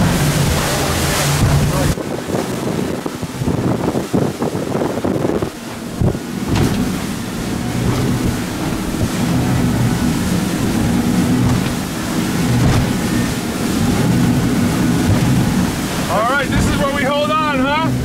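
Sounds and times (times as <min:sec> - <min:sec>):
boat moving through choppy water: 0:00.0 - 0:18.0
motorboat engine drone: 0:00.0 - 0:18.0
wind buffeting microphone: 0:00.0 - 0:18.0.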